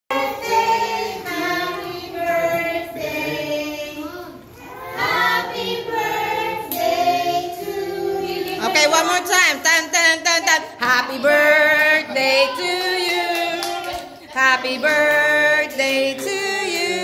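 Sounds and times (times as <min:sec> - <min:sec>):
children singing in unison: 0:00.1 - 0:08.6, 0:11.2 - 0:17.0.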